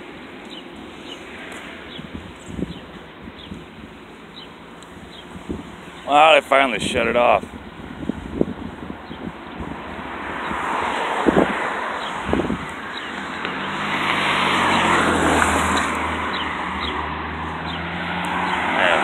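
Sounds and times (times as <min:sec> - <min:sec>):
vehicle passing: 0:00.8 - 0:19.0.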